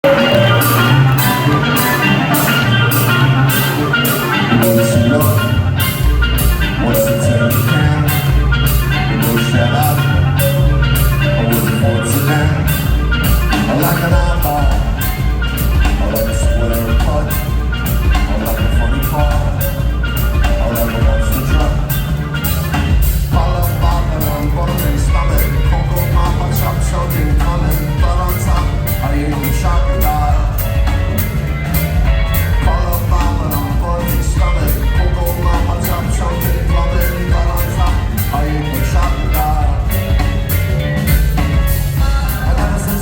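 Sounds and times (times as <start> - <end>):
heavy bass line: 0.0 - 43.0
drums with cymbal: 0.1 - 43.0.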